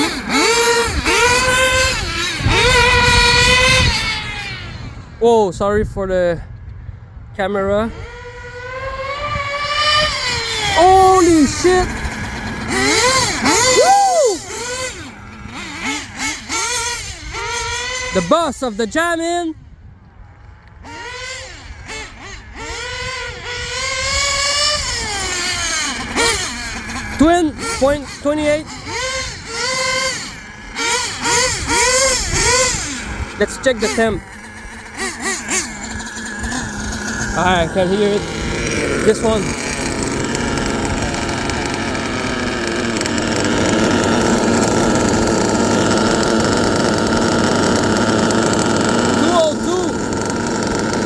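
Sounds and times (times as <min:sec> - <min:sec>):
model truck engines revving: 0:00.0 - 0:05.2, 0:07.4 - 0:19.5, 0:20.4 - 0:51.0.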